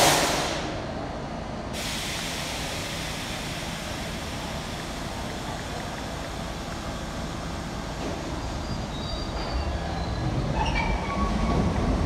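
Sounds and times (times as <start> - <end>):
subway train hissing: 0.0 - 12.0.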